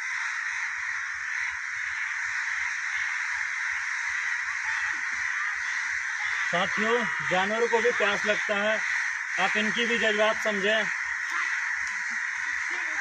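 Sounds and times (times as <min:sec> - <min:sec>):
many crows cawing: 0:00.0 - 0:13.0.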